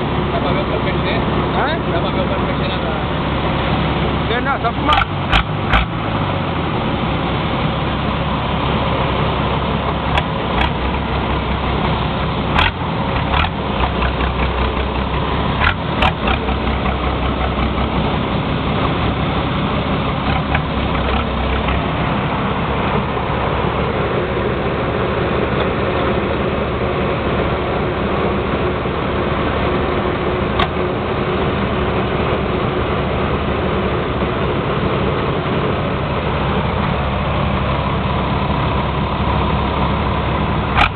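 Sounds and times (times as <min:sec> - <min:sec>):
engine idling with deep rumble: 0:00.0 - 0:40.9.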